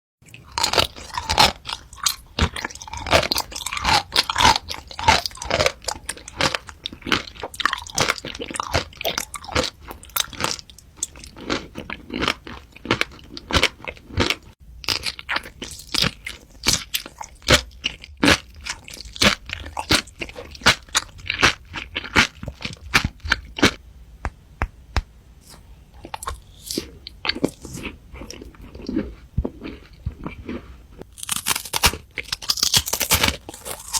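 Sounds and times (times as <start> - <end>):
person chewing crunchy food: 0.3 - 23.8, 25.4 - 33.9.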